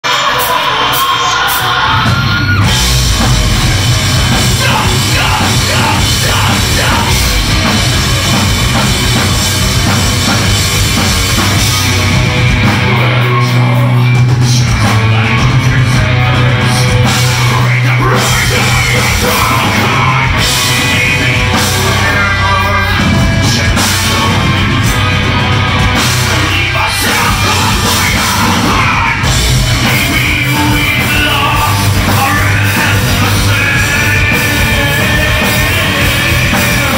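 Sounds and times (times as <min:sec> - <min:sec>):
singer yelling: 0:00.0 - 0:09.2, 0:11.4 - 0:36.9
heavy rock band playing: 0:00.0 - 0:36.9.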